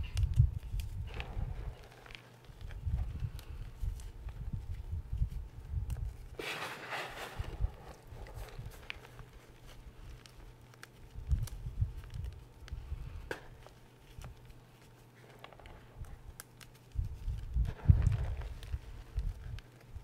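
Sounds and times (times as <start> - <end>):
faint crackles of chunks breaking: 0.0 - 20.0.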